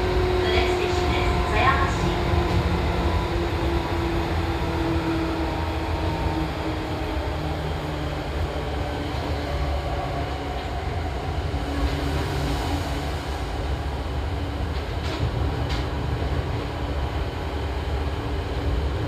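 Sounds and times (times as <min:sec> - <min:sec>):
electric train wheels rumbling: 0:00.0 - 0:19.0.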